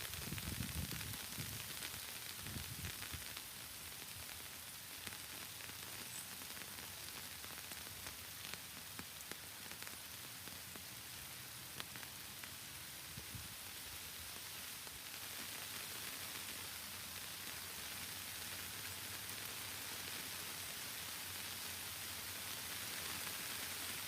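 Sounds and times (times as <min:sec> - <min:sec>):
raindrops ticking close by: 0:00.0 - 0:24.0
steady rain hiss: 0:00.0 - 0:24.0.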